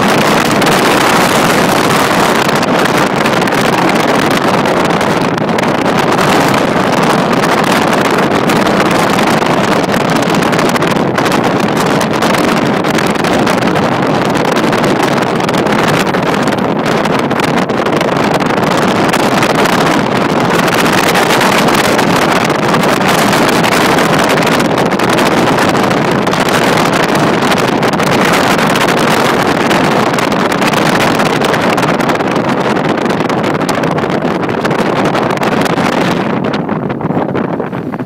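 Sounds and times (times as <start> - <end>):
vehicle road noise: 0.0 - 38.0
wind buffeting microphone: 0.0 - 38.0.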